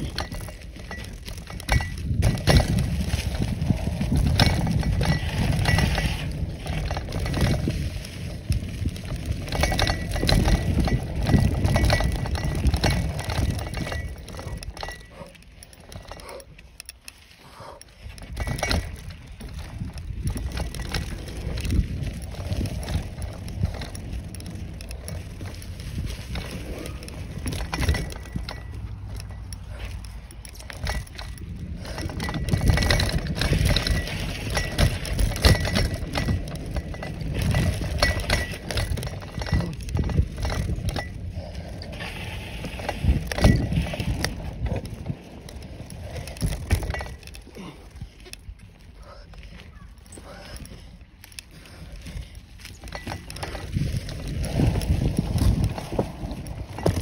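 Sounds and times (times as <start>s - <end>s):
bicycle tyres rumbling on dirt: 0.0s - 57.0s
bike rattling and clinking: 0.0s - 57.0s.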